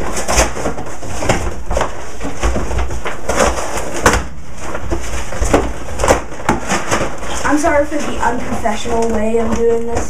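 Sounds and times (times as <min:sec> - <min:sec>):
handling noise: 0:00.0 - 0:10.0.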